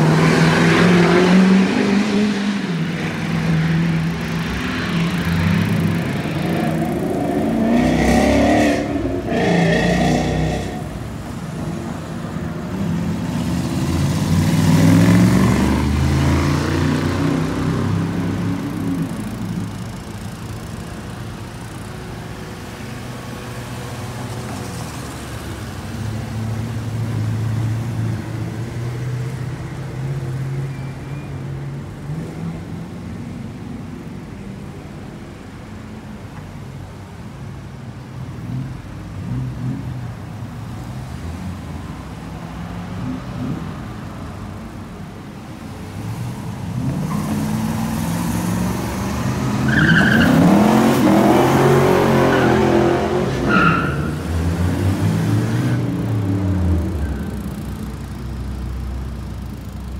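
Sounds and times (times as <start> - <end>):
cars and trucks driving past: 0.0 - 59.9.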